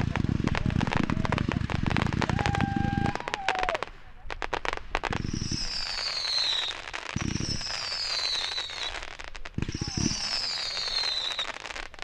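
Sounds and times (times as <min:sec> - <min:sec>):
fireworks crackling reports: 0:00.0 - 0:12.0.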